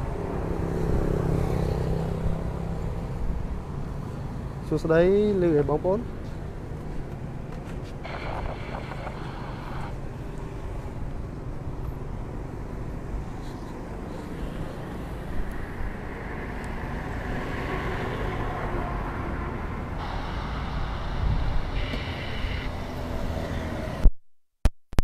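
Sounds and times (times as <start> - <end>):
outdoor background noise: 0.0 - 24.1.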